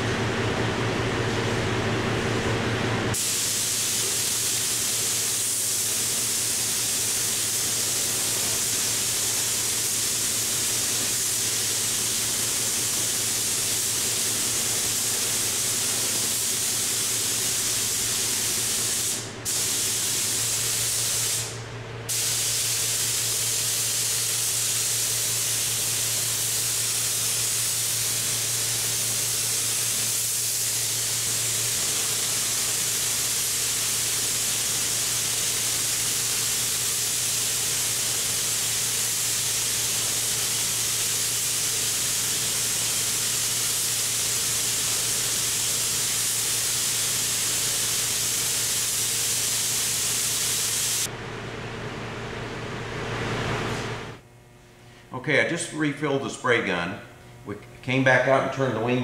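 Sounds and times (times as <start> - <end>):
exhaust fan hum: 0.0 - 59.0
spray gun hissing: 3.1 - 51.1.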